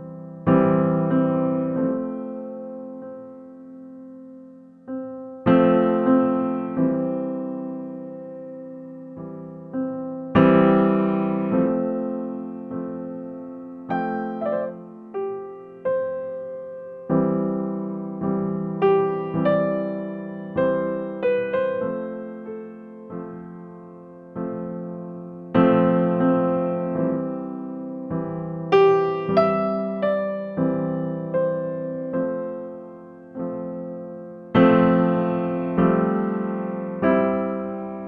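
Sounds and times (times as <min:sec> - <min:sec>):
gentle piano music: 0:00.0 - 0:38.0.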